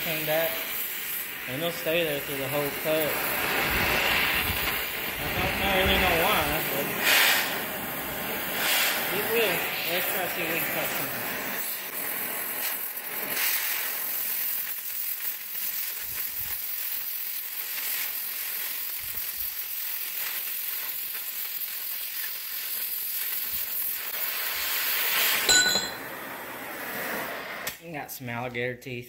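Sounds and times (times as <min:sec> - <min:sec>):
cutting torch hissing sizzle: 0:00.0 - 0:27.8.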